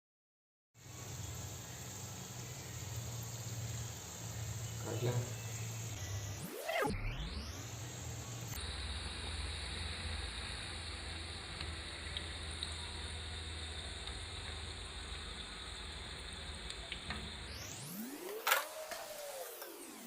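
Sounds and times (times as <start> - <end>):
food sizzling in hot oil: 0.8 - 20.0.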